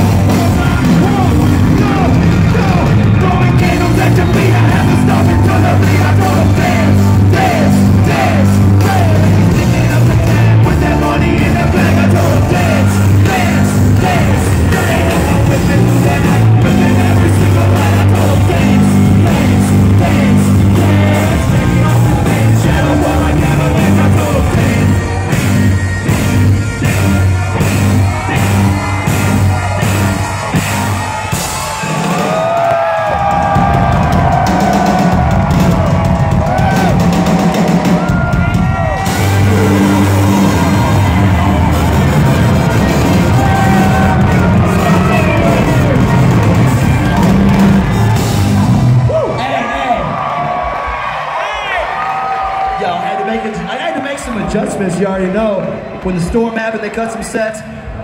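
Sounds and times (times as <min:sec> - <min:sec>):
heavy bass line: 0:00.0 - 0:49.4
live band music: 0:00.0 - 0:49.4
singing and shouted vocals: 0:00.0 - 0:58.0.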